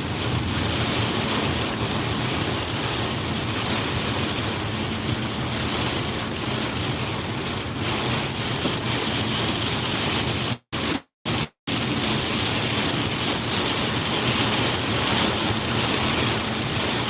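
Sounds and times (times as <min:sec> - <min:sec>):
heavy rain: 0:00.0 - 0:10.0, 0:11.3 - 0:17.0.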